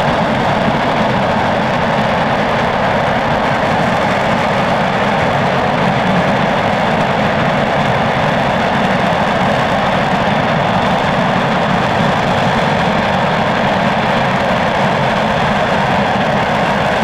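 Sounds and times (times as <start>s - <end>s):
rocket engine roaring: 0.0s - 17.0s.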